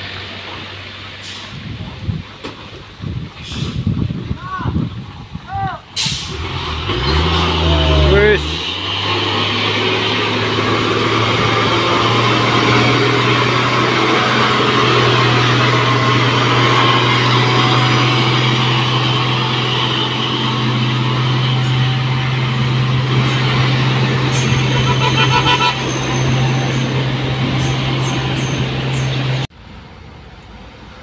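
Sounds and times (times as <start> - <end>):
truck diesel engine: 0.0 - 31.0.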